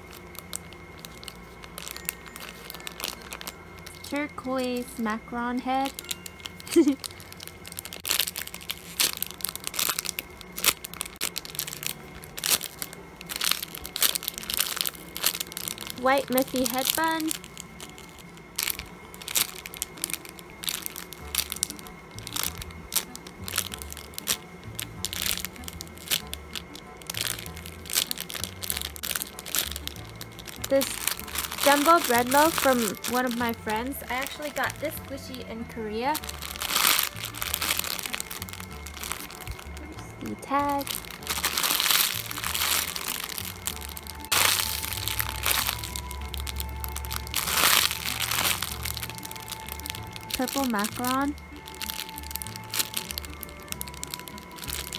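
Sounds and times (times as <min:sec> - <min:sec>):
plastic bag crinkling: 0:00.0 - 0:54.9
soft background music: 0:00.0 - 0:54.9.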